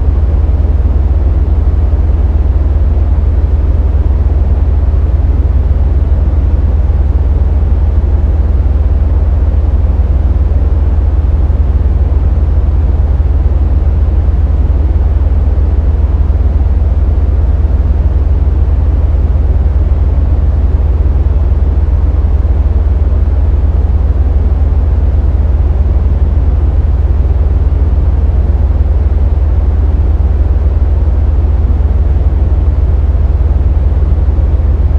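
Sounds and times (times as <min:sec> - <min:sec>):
synthesized bass rumbling noise: 0:00.0 - 0:34.9.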